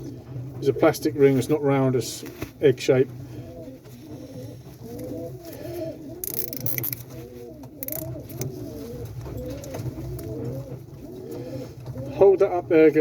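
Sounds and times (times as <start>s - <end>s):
pigeons cooing: 0.0s - 1.9s, 2.6s - 13.0s.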